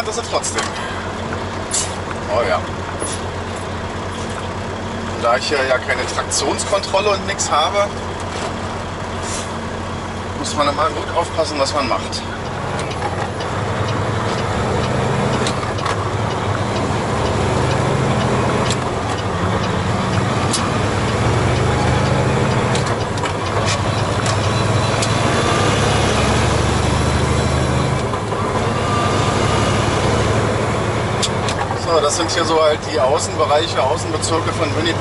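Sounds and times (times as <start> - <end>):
road noise: 0.0 - 35.0
truck diesel engine droning: 0.0 - 35.0.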